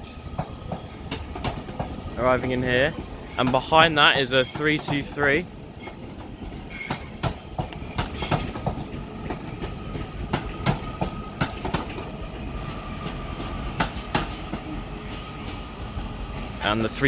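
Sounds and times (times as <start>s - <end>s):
wheels clicking over rail joints: 0.0s - 15.7s
train rumble: 0.0s - 17.0s.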